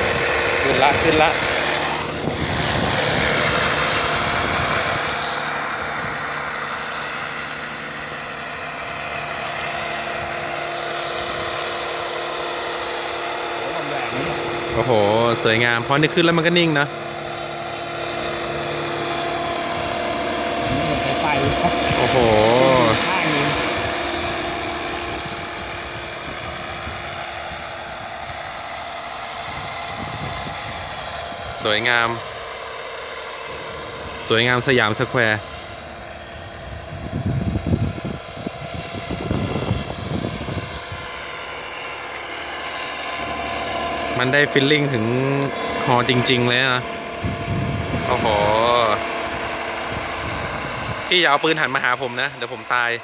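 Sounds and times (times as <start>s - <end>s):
model helicopter rotor whir: 0.0s - 53.0s.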